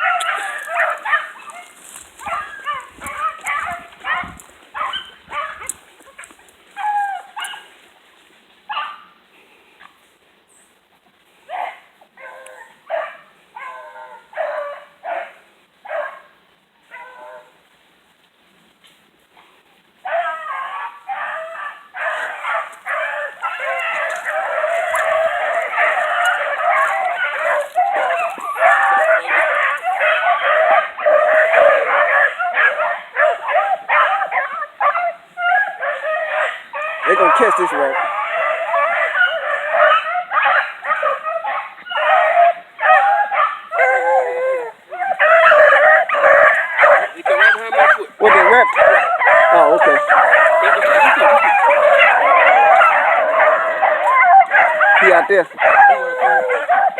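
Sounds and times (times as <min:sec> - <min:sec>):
hunting hounds barking: 0:00.0 - 0:07.7, 0:08.7 - 0:09.1, 0:11.5 - 0:17.6, 0:20.0 - 0:56.9.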